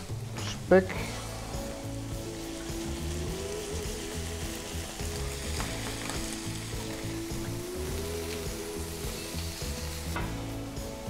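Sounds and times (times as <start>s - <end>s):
background music: 0.0s - 11.0s
potatoes and bacon sizzling in a pan: 0.0s - 11.0s.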